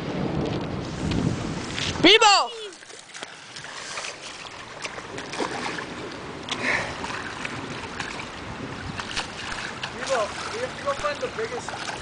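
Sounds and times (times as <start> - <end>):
rain and running water: 0.0 - 12.0
water splashing: 0.8 - 12.0.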